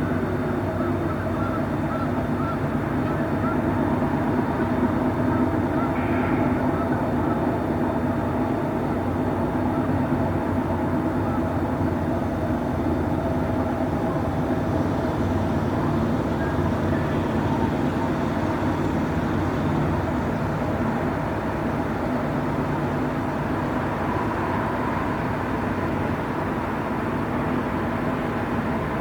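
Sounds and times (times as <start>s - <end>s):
train running hum: 0.0s - 29.0s.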